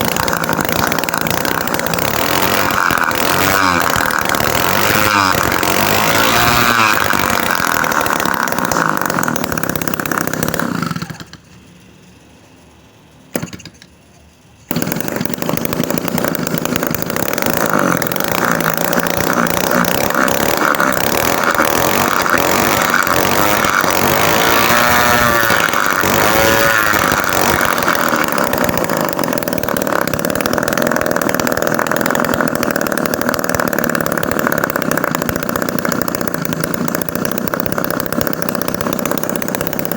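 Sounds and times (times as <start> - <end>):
small two-stroke engine running: 0.0 - 12.6, 13.2 - 13.9, 14.5 - 39.9.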